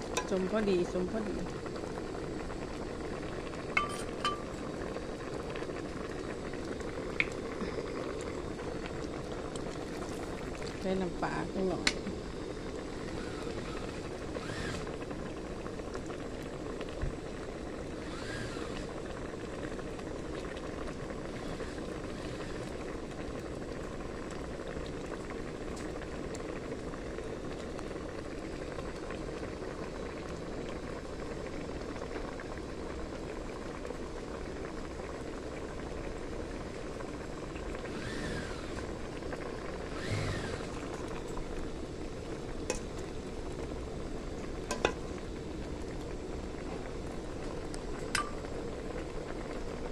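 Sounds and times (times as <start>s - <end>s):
pot boiling and bubbling: 0.0s - 49.9s.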